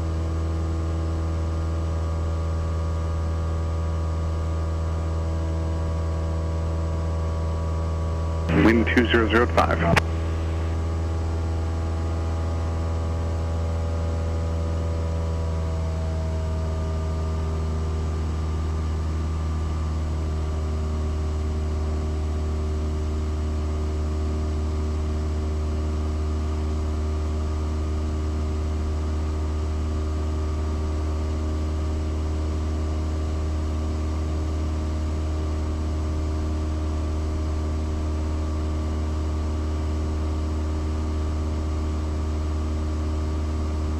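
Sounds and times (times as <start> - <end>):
propeller aircraft engine droning: 0.0 - 43.9.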